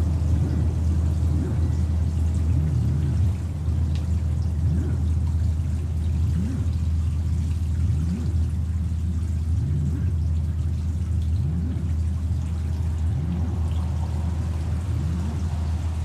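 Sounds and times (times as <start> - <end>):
low electronic drone: 0.0 - 16.0.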